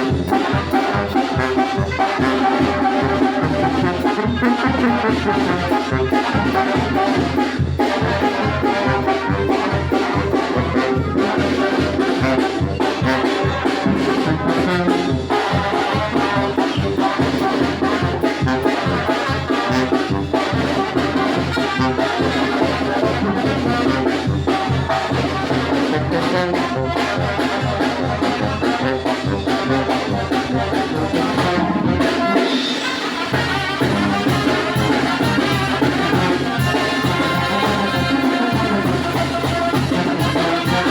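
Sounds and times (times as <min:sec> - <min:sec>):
brass melody: 0:00.0 - 0:40.9.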